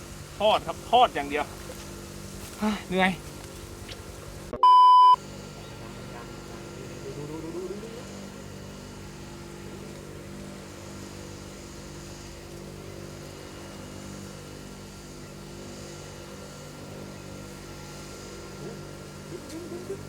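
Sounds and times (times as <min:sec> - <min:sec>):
engine droning hum: 0:00.0 - 0:20.0.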